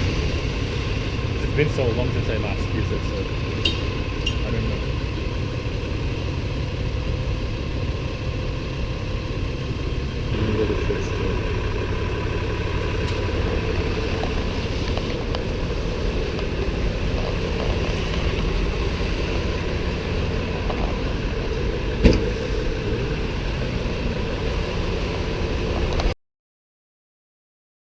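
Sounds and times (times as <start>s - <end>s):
car engine rumbling: 0.0s - 26.2s.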